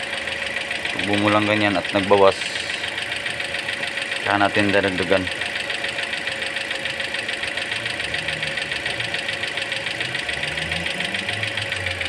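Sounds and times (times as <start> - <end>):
car engine idling: 0.0 - 12.0
rapid even ticking: 0.0 - 12.0.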